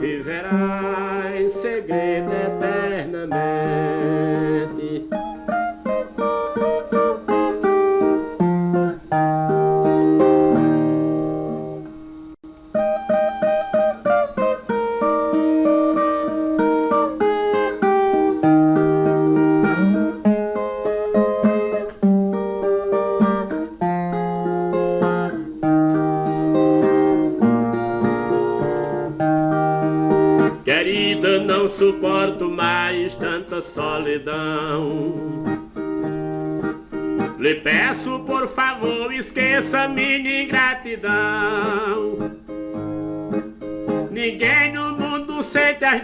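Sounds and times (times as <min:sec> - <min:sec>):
plucked guitar melody: 0:00.0 - 0:46.0.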